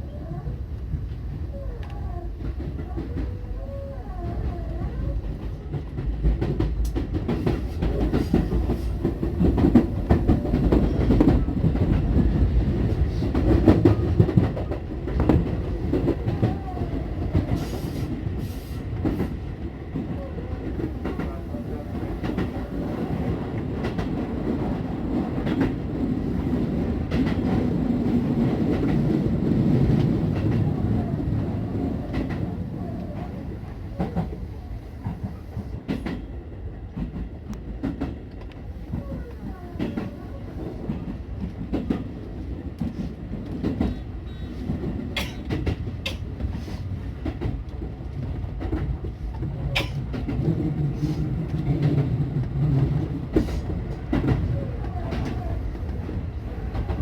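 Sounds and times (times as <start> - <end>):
train rumble: 0.0 - 57.0
train wheels clacking: 4.4 - 30.9, 35.0 - 57.0.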